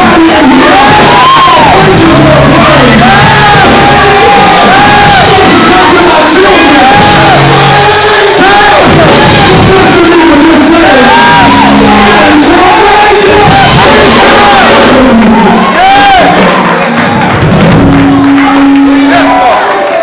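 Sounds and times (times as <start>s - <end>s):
preacher shouting and chanting: 0.0s - 16.8s, 18.4s - 20.0s
loud backing music: 0.0s - 20.0s.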